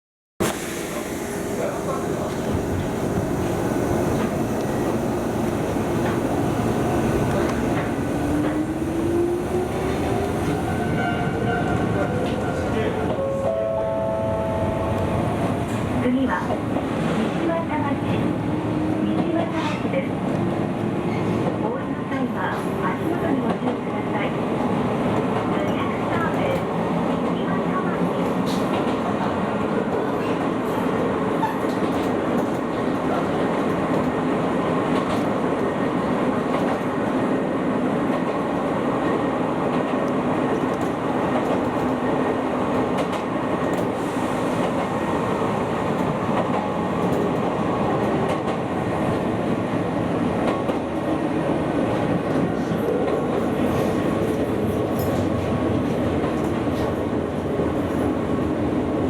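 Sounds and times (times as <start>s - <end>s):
electric train wheels rumbling on rail: 0.4s - 59.0s.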